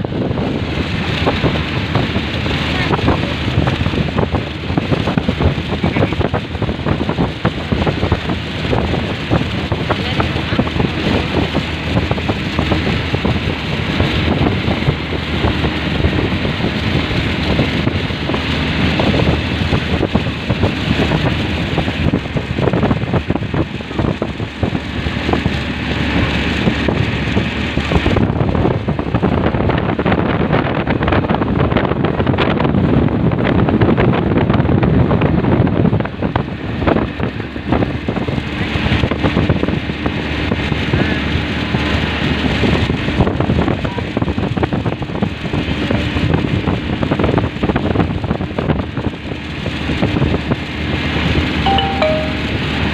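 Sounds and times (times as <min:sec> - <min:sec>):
wind buffeting microphone: 0:00.0 - 0:51.7
vehicle engine running: 0:00.0 - 0:52.9.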